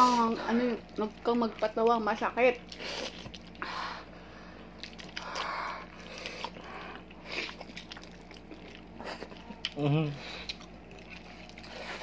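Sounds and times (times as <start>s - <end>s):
wet chewing: 0.2s - 3.8s, 4.6s - 12.0s.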